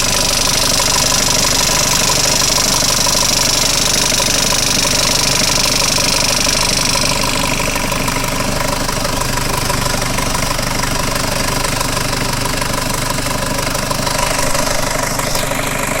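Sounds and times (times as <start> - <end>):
diesel engine running: 0.0 - 16.0
injection pump knocking: 0.0 - 16.0.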